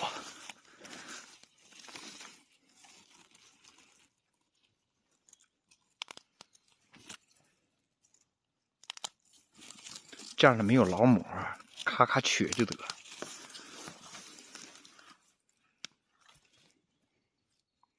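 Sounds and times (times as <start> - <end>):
plants rustling: 0.0 - 17.2.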